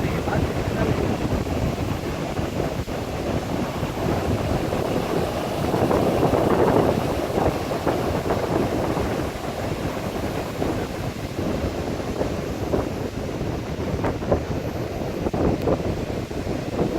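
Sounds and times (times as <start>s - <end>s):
waves breaking on beach: 0.0s - 16.9s
wind buffeting microphone: 0.0s - 16.9s.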